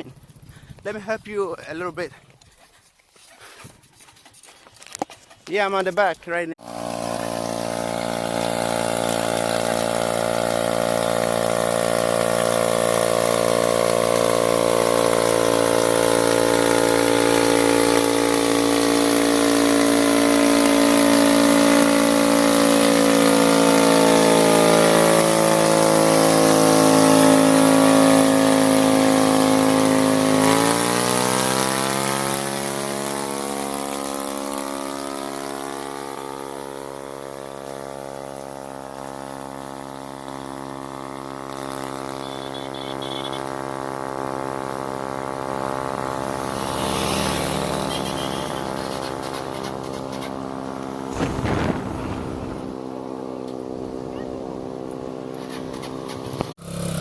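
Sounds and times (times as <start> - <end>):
motorcycle engine under load: 6.6 - 57.0.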